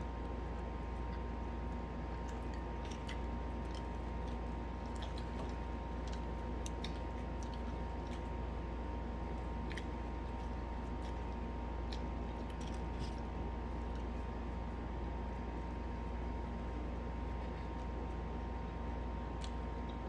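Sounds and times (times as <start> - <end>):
people chewing fried chicken: 0.0 - 20.0
steady low hum: 0.0 - 20.0.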